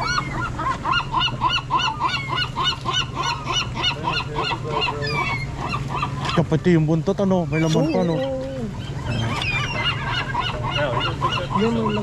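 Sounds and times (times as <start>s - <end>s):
gull harsh calls: 0.0s - 12.0s
low steady hum: 0.0s - 12.0s.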